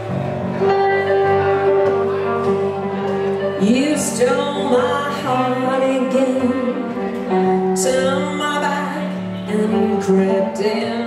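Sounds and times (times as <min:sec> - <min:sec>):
electric guitar: 0:00.0 - 0:11.0
electric keyboard: 0:00.0 - 0:11.0.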